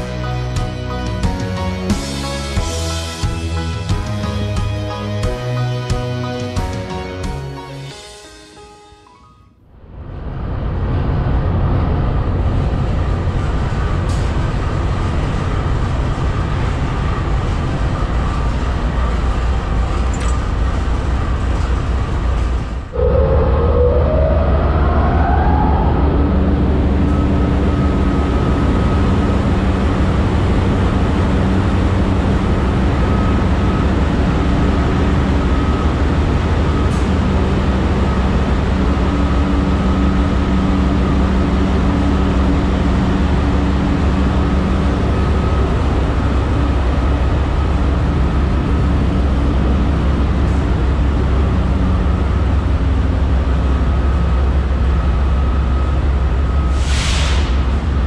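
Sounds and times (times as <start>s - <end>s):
locomotive engines idling: 0.0s - 7.9s, 12.2s - 23.0s, 26.6s - 58.0s.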